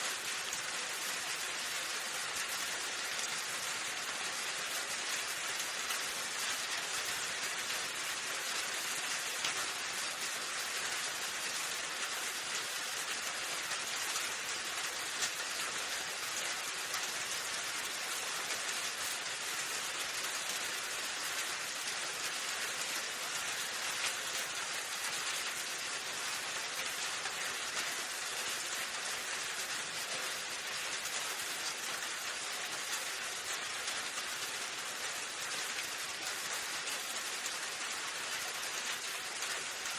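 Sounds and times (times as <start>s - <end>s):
raindrops ticking on surface: 0.0s - 39.9s
steady rain hiss: 0.0s - 39.9s.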